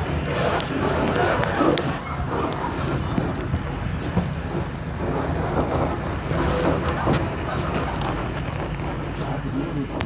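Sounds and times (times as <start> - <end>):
bus body rattling and clicking: 0.0 - 10.0
bus engine rumbling: 0.0 - 10.0.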